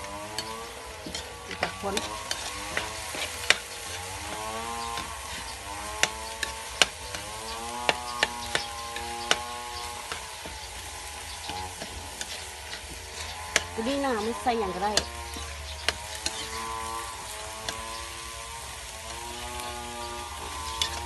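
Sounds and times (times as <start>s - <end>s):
faint sizzle: 0.0s - 21.0s
spatula scraping a wok: 0.0s - 21.0s.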